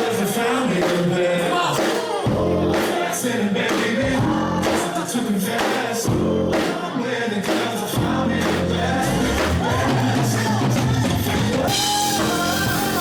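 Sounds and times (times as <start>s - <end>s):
live pop music with beat: 0.0s - 13.0s
person singing: 0.0s - 13.0s.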